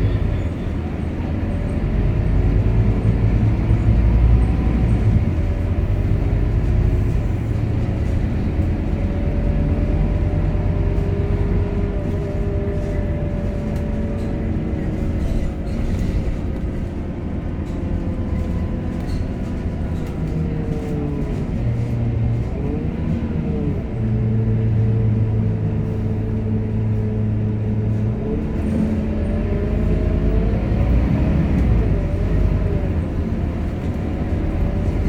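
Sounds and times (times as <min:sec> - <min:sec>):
bus engine rumble: 0:00.0 - 0:35.0.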